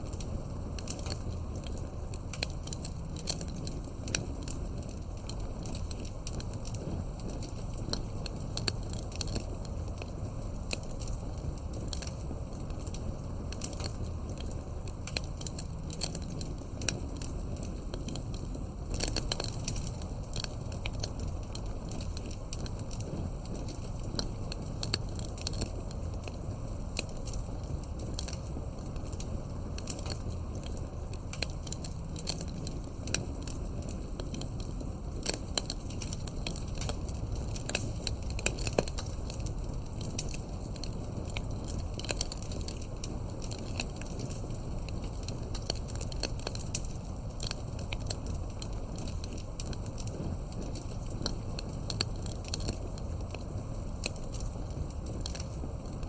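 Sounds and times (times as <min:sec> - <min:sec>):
low rush of flames: 0:00.0 - 0:56.0
wood crackling and popping: 0:00.0 - 0:56.0.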